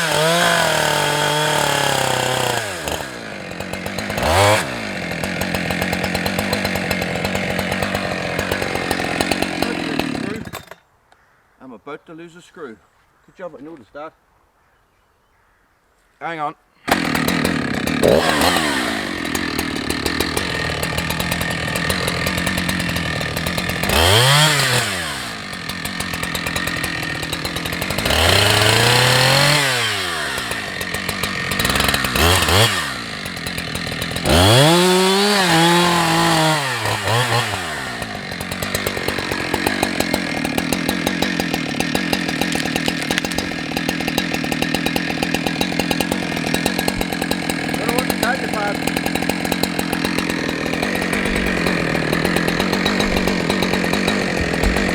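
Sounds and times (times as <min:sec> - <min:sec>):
chainsaw idling and revving: 0:00.0 - 0:10.8, 0:16.8 - 0:54.9.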